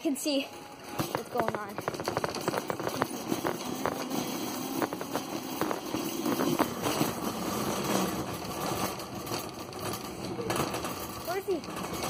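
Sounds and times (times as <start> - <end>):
shopping cart wheels rumbling: 0.3 - 12.0
cart basket rattling: 0.8 - 12.0.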